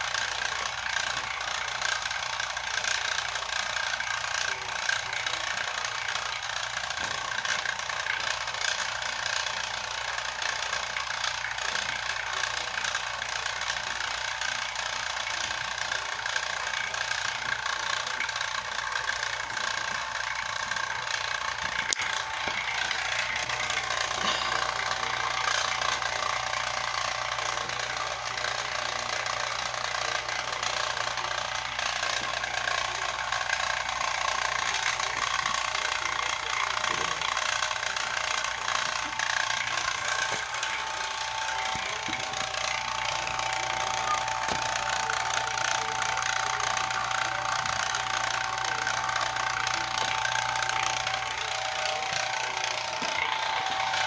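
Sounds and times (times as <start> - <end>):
high-voltage supply buzz: 0.0 - 54.0
vacuum pump running: 0.0 - 54.0.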